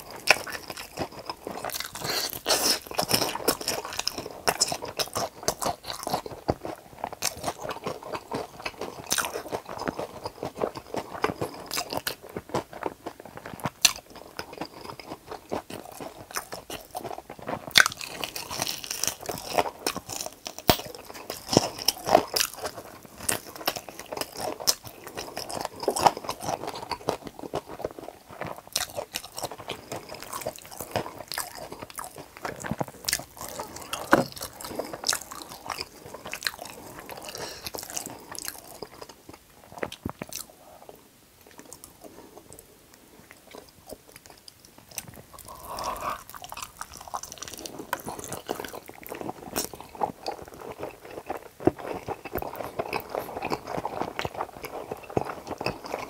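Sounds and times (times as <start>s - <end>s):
biting and chewing fried chicken: 0.0s - 56.0s.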